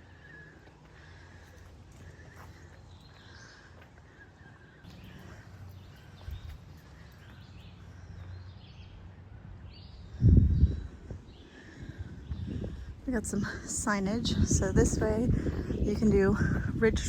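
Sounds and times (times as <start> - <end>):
songbirds chirping and singing: 0.0 - 17.0.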